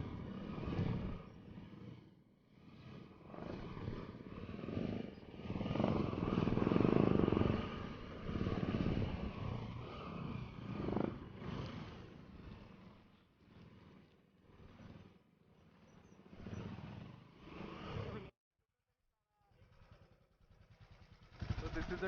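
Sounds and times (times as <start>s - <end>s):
motorcycle engine revving: 0.0s - 18.3s, 19.6s - 22.0s.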